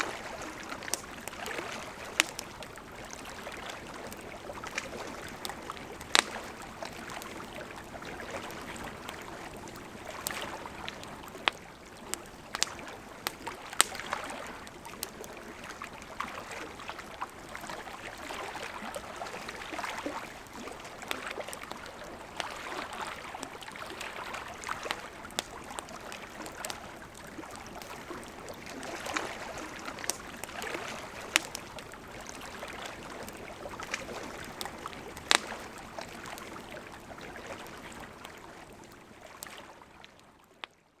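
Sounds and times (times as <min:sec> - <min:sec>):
campfire crackling and popping: 0:00.0 - 0:39.6
river flowing: 0:00.0 - 0:39.9.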